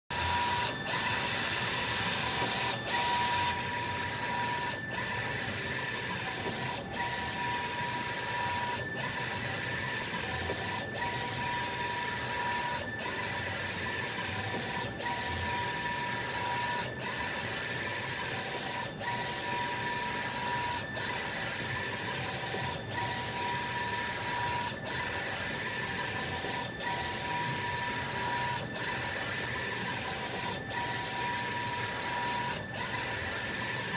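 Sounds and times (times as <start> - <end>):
printer carriage whirring: 0.1 - 33.9.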